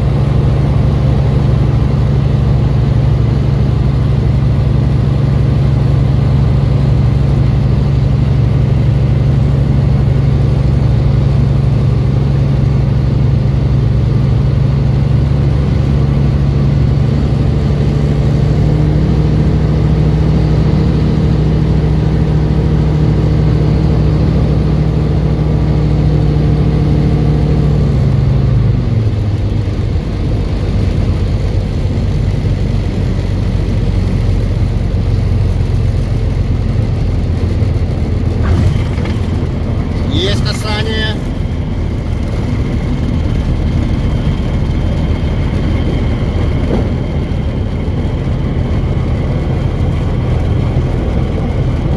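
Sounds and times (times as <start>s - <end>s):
light aircraft engine and propeller: 0.0s - 51.9s.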